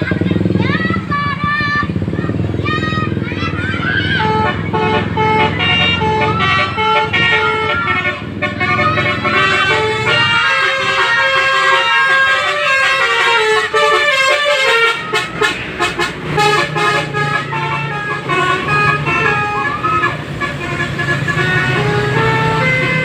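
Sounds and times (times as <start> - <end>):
multi-tone bus horn melody: 3.8 - 23.0.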